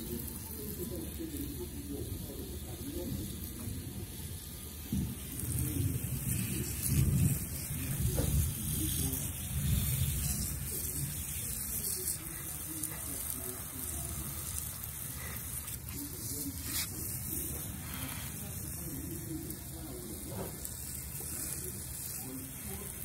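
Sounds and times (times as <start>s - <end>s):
water hissing from spray nozzle: 0.0s - 23.0s.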